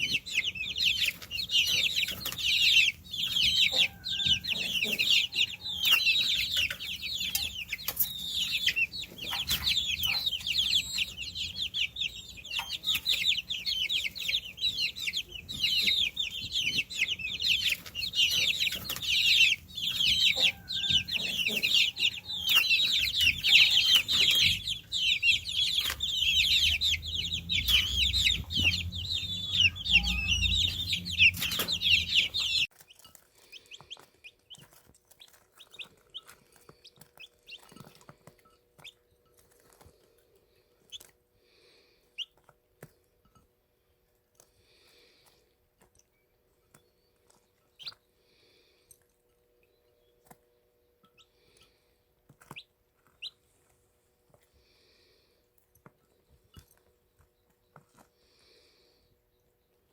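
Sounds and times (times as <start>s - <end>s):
baby chicks peeping: 0.0s - 59.9s.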